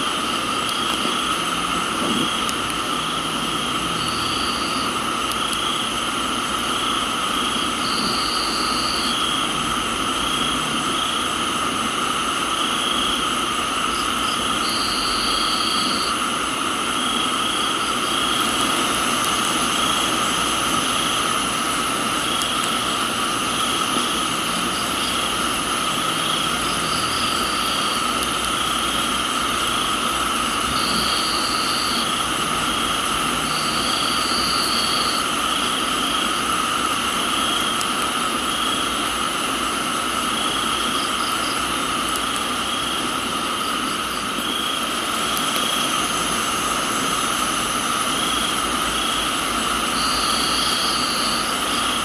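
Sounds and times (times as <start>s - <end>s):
crickets and insects trilling: 0.0s - 52.0s
pulsing insect trill: 0.0s - 52.0s
steady rain: 0.0s - 52.0s
higher insect trill: 0.4s - 6.0s, 6.6s - 11.4s, 12.1s - 39.1s, 40.1s - 52.0s.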